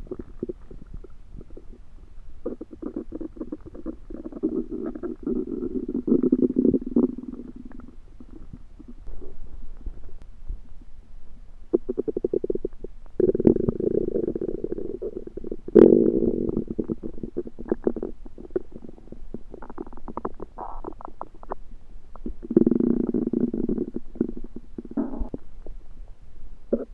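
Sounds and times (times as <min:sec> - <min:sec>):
stomach gurgling and rumbling: 0:00.0 - 0:26.0, 0:26.7 - 0:26.9.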